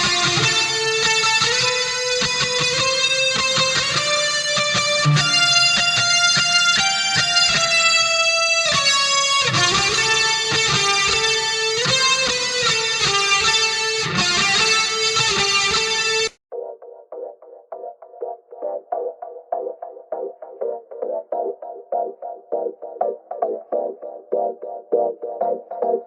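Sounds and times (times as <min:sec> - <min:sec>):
electric guitar music: 0:00.0 - 0:26.0.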